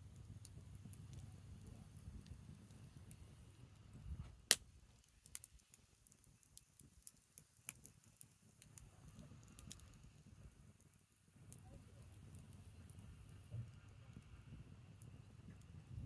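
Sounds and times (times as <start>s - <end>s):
fire crackling and popping: 0.0s - 16.0s
loud crack of burning wood: 0.1s - 13.4s.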